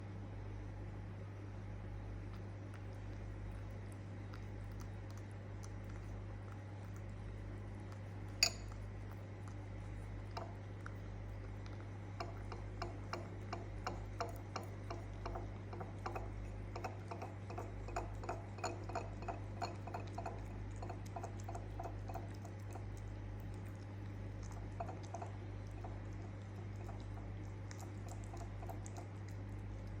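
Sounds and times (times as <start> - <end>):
cat eating from a dish: 2.0 - 30.0.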